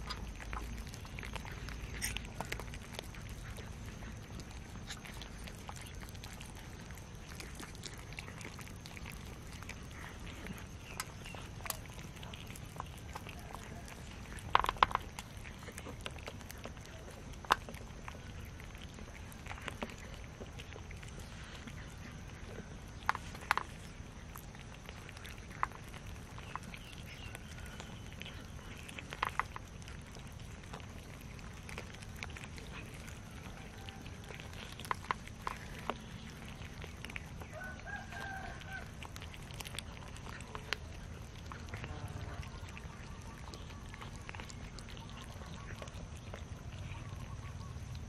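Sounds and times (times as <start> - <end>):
animal call: 0.0 - 48.0
cats chewing food: 0.0 - 48.0
low background noise: 0.0 - 48.0.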